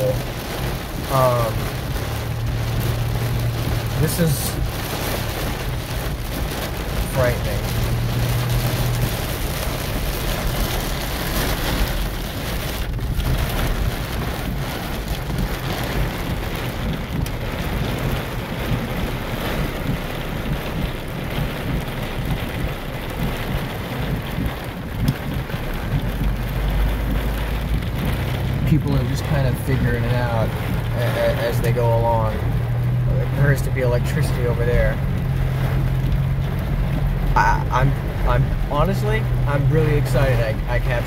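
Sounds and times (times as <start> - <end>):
heavy rain on car roof: 0.0 - 41.0.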